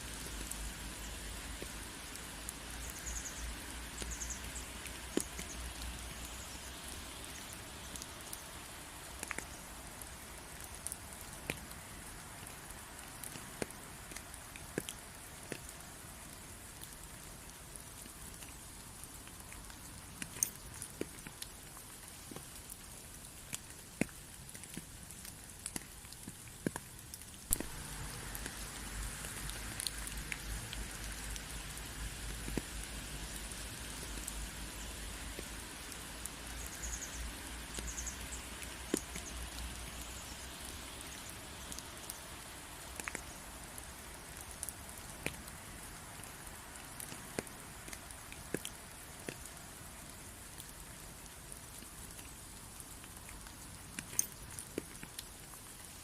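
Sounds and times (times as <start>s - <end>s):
steady rain: 0.0s - 56.0s
raindrops tapping: 0.1s - 55.8s.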